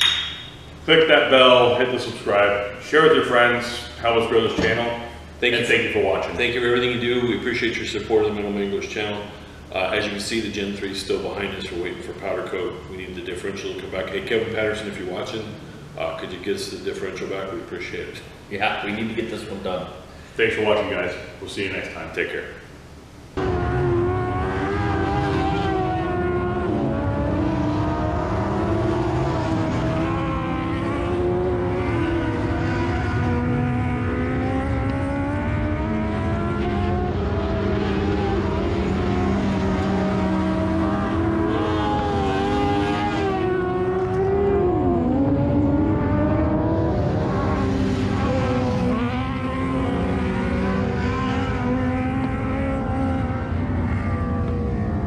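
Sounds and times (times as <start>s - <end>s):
race car engines revving: 0.0s - 20.6s, 23.3s - 55.0s.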